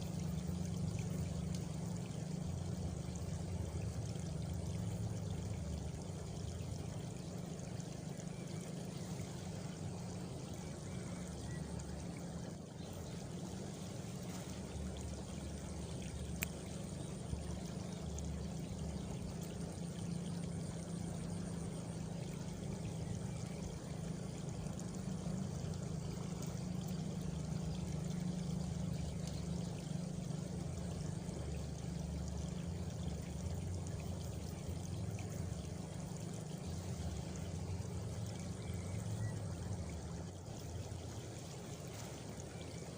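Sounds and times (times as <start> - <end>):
faint high insect trill: 0.0 - 42.9
water trickling: 0.0 - 42.9.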